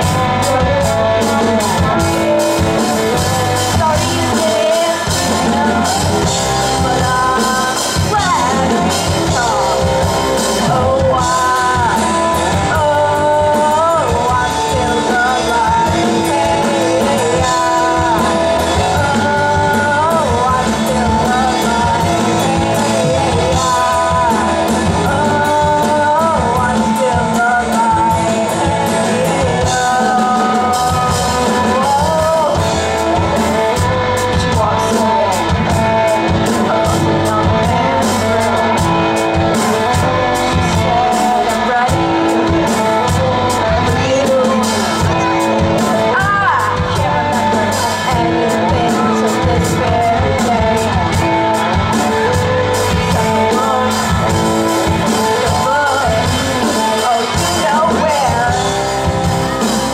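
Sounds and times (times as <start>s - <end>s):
lead vocal singing: 0.0s - 59.9s
live rock band playing: 0.0s - 59.9s.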